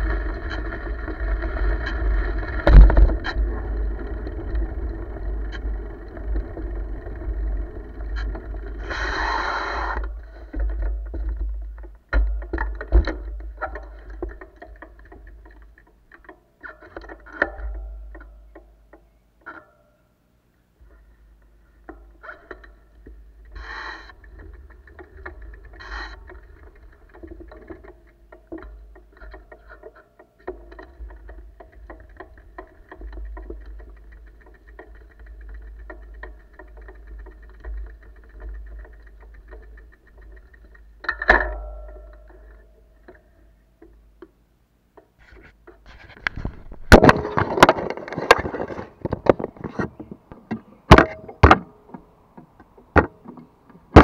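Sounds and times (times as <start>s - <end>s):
bicycle rolling over wooden planks: 0.0s - 19.7s, 20.8s - 54.0s.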